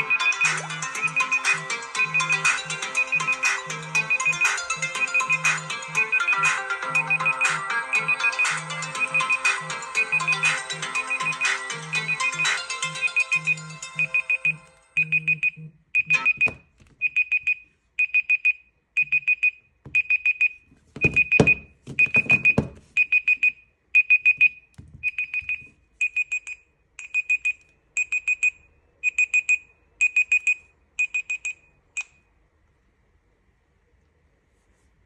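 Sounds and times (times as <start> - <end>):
phone alarm beeping: 0.0 - 32.1.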